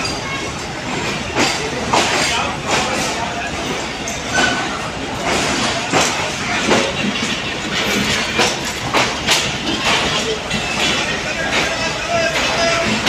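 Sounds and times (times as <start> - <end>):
crowd chatter: 0.0 - 13.0
train rumble: 0.0 - 13.0
train wheels knocking over rail joints: 0.0 - 13.0.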